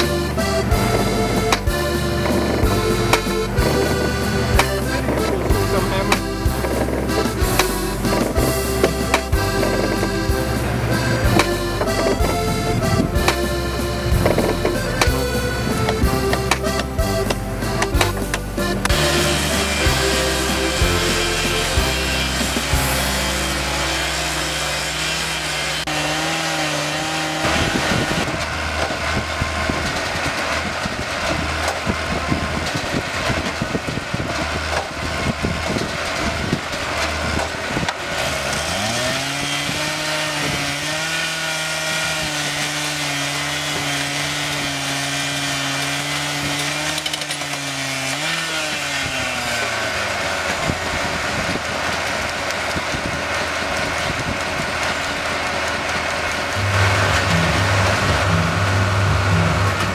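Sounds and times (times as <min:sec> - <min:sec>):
saw engine high note: 0:00.0 - 0:33.4, 0:38.1 - 0:53.8, 0:56.4 - 0:59.9
cut-off saw grinding steel: 0:00.0 - 0:59.9.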